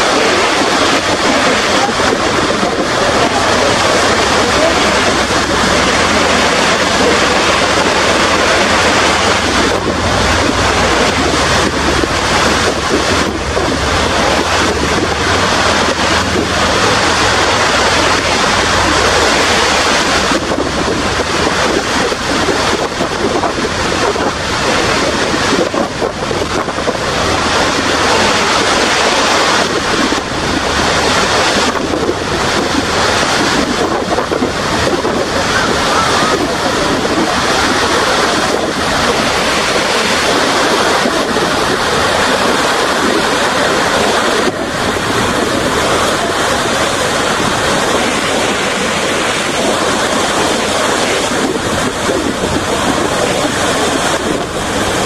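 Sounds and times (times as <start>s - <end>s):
waterfall rushing onto rocks: 0.0s - 55.0s
wind buffeting microphone: 0.0s - 55.0s.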